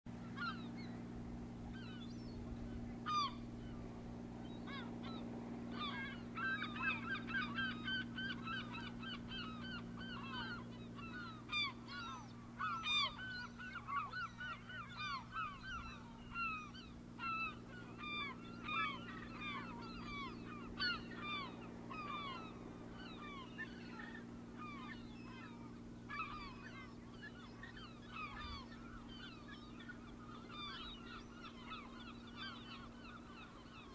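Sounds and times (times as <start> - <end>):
steady low hum: 0.1 - 33.9
flock of birds calling: 0.2 - 1.1, 1.7 - 33.9.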